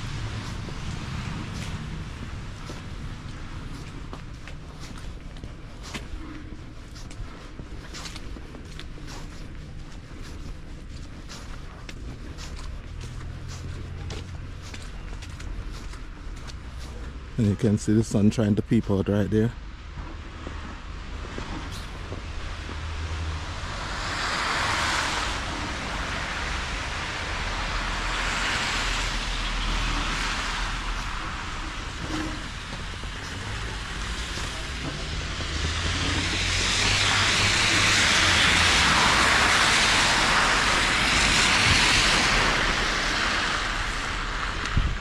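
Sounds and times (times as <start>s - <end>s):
tyres hissing on wet road: 0.0s - 17.6s, 20.5s - 45.0s.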